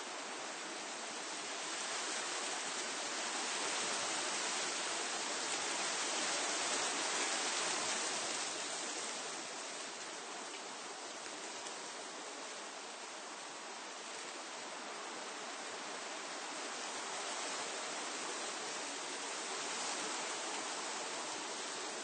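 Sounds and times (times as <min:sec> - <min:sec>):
wind rustling leaves: 0:00.0 - 0:22.0.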